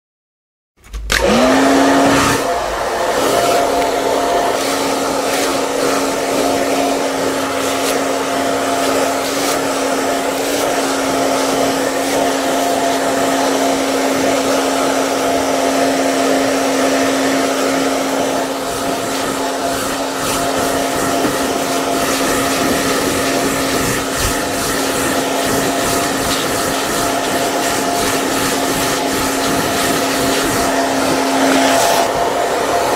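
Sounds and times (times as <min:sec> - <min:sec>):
hair dryer running: 0:01.1 - 0:32.9.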